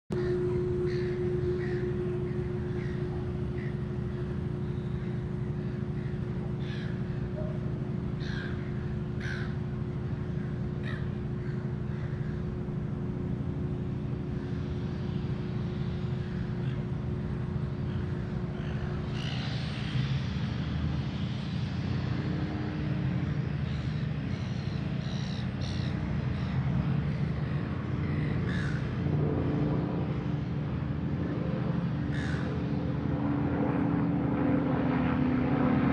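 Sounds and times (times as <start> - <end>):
steady low hum: 0.1 - 35.9.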